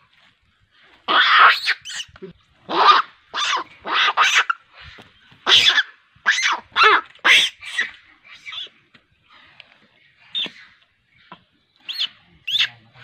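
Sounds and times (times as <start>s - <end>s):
animal calling: 1.1s - 8.8s, 10.3s - 13.0s.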